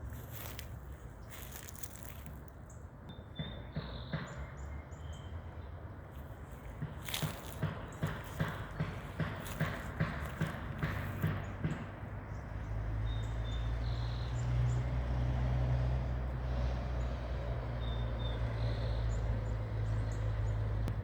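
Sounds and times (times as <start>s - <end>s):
vehicle engine rumble: 0.0s - 21.0s.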